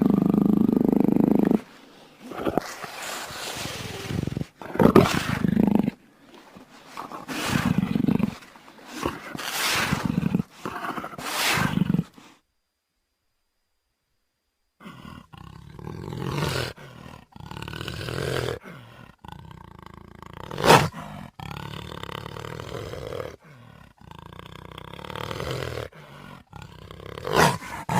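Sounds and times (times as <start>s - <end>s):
jaguar roaring calls: 0.0s - 6.0s, 6.9s - 12.2s, 14.8s - 27.9s.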